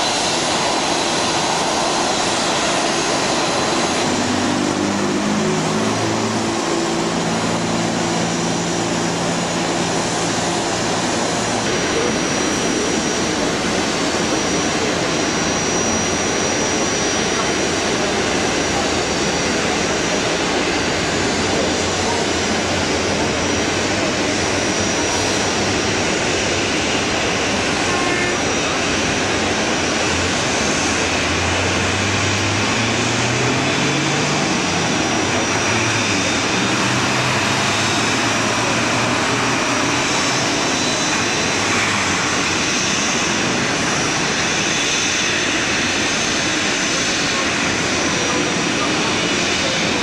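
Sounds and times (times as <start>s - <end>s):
jet engines idling with whine: 0.0s - 50.0s.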